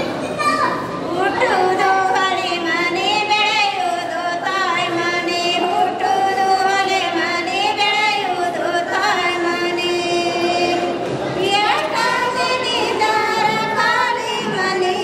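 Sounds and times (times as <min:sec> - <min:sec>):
high voice singing: 0:01.1 - 0:15.0.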